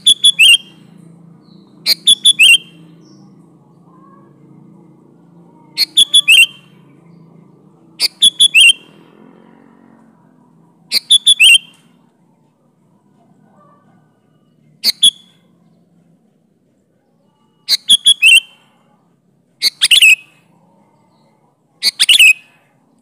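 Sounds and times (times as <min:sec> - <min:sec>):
bulbul singing: 0:00.0 - 0:12.3, 0:14.2 - 0:16.1, 0:17.2 - 0:23.0.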